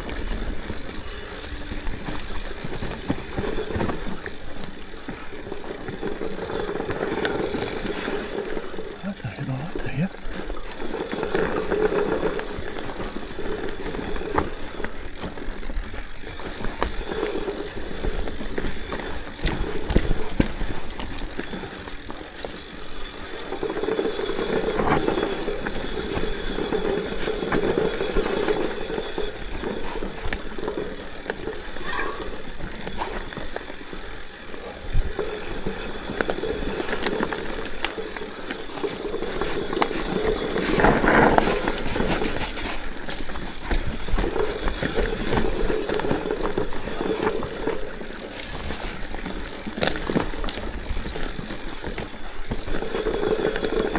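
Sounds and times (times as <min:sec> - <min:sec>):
bike rattling and knocking: 0:00.0 - 0:53.9
bike tyres rolling on dirt: 0:00.0 - 0:53.9.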